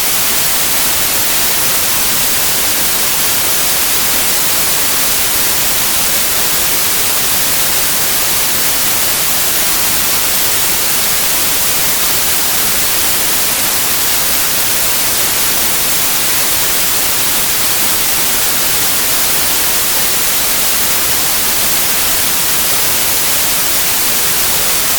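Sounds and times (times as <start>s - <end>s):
television static hiss: 0.0s - 24.9s.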